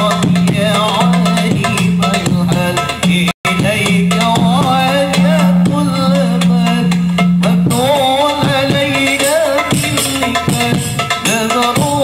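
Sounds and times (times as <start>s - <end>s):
hand-drum music over bass: 0.0s - 12.0s.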